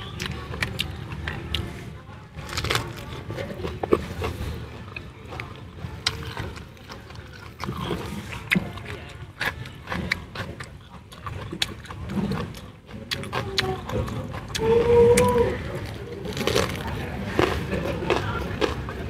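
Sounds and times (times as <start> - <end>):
chewing: 0.0 - 19.0.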